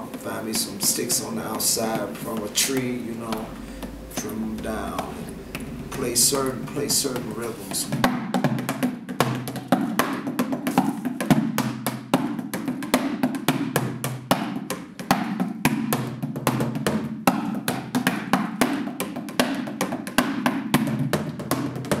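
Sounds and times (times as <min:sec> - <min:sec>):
drumsticks beating cardboard boxes: 0:00.0 - 0:22.0.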